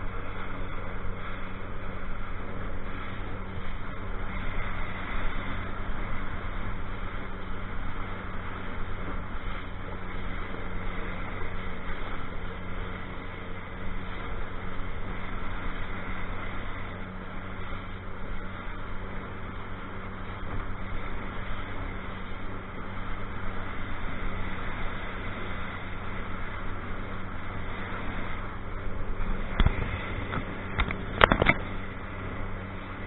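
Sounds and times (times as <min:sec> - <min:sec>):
motorboat engine hum: 0:00.0 - 0:33.0
water rushing along hull: 0:00.0 - 0:33.0.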